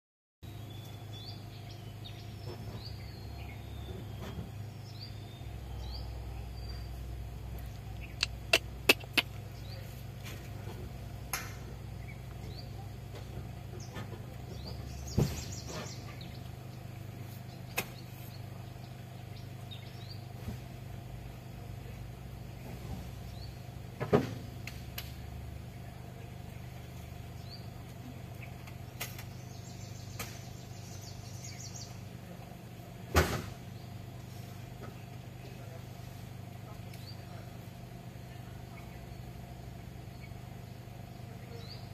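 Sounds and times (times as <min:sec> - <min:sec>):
steady low hum: 0:00.4 - 0:41.9.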